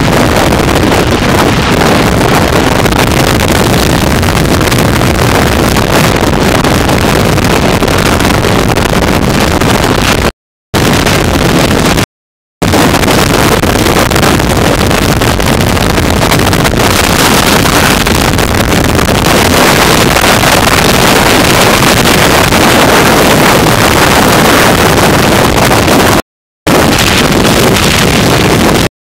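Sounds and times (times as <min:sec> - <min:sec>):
loud wind noise: 0:00.0 - 0:29.0.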